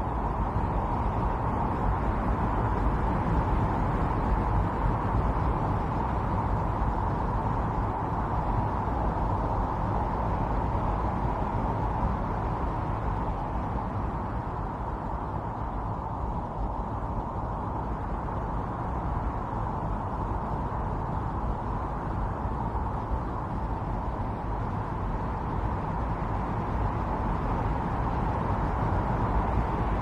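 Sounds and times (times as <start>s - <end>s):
strong snowstorm wind: 0.0s - 30.0s.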